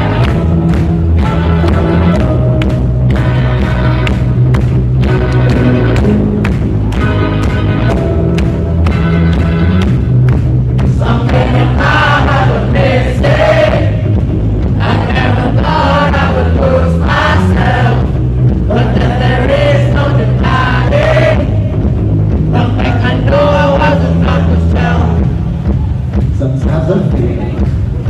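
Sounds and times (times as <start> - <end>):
band music with singing: 0.0 - 28.0
low bass notes: 0.0 - 28.0.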